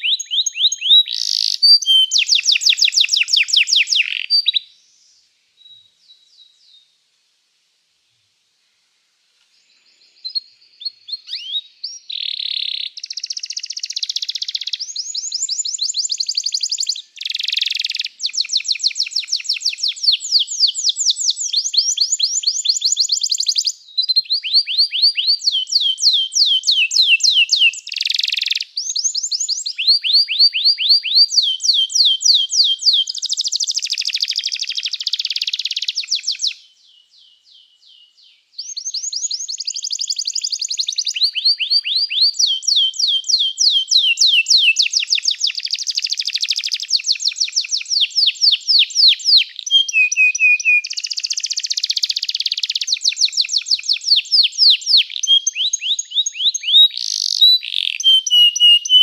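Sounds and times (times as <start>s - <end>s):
canary singing trills: 0.0s - 4.7s, 10.0s - 59.0s.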